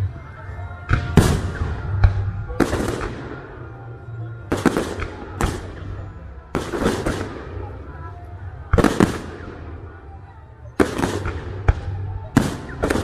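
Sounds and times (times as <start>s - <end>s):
fireworks booming and crackling: 0.8s - 10.2s, 10.8s - 13.0s.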